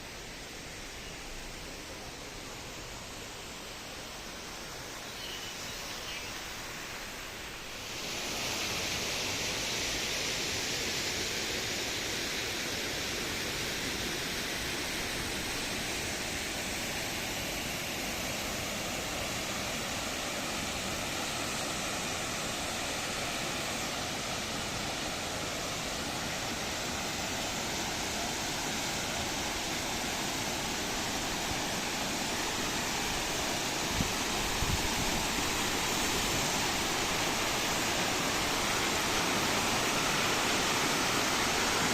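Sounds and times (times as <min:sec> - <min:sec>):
waterfall rushing: 0:06.6 - 0:41.9.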